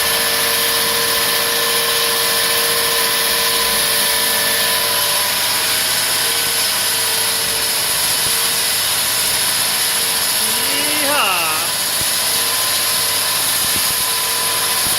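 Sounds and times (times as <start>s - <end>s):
wall saw cutting concrete: 0.0s - 14.9s.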